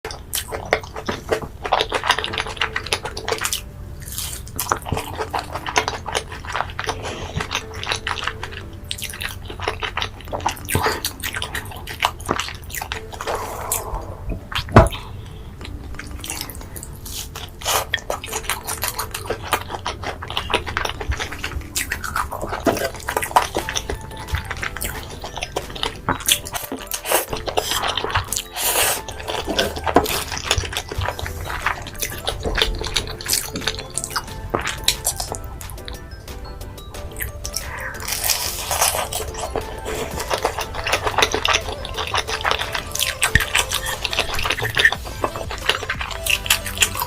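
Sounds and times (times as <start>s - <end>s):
crunching and wet chewing: 0.0s - 47.0s.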